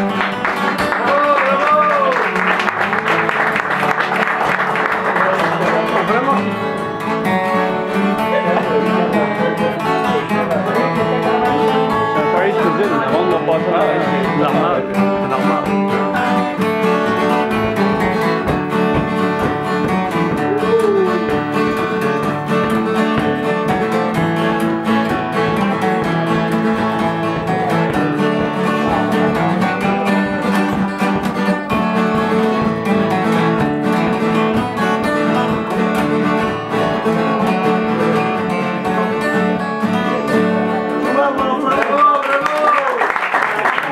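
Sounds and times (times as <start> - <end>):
acoustic guitars playing: 0.0 - 43.9.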